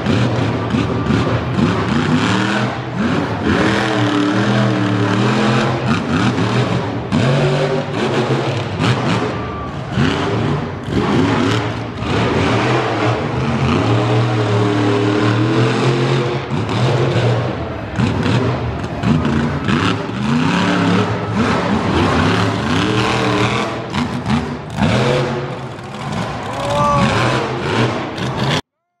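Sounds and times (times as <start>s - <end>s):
monster truck engine revving: 0.0s - 28.6s.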